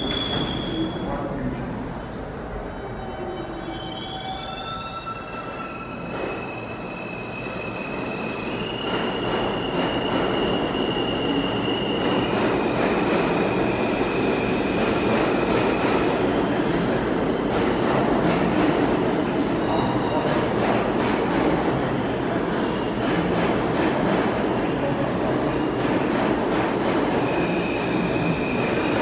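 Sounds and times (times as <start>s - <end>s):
subway train accelerating: 0.0s - 29.0s.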